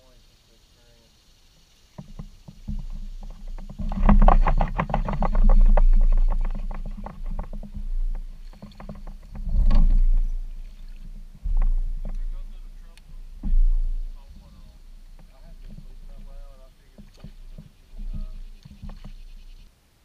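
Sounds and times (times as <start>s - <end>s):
paddle splashing water: 1.9s - 19.7s
low rumble: 2.7s - 19.7s.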